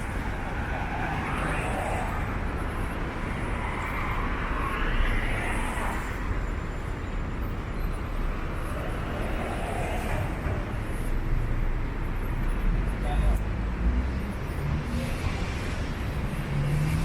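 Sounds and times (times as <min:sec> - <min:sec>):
cars passing: 0:00.0 - 0:17.0
road rumble: 0:00.0 - 0:17.0.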